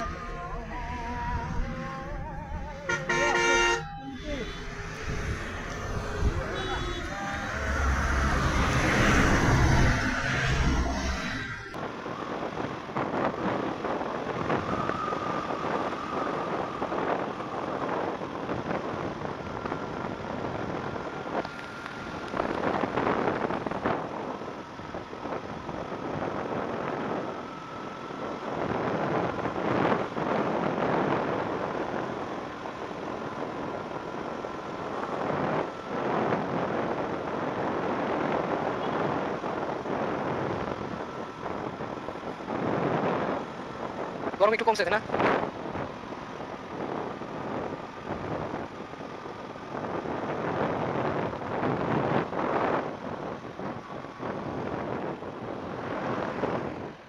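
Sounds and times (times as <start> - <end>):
road vehicle noise: 0.0 - 57.0
wind rushing over microphone: 0.0 - 57.0.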